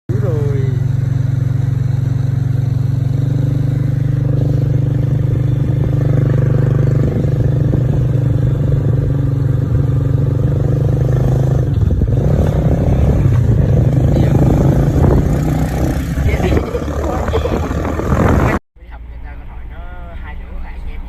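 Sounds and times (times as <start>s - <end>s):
vehicle engine running: 0.1s - 21.0s.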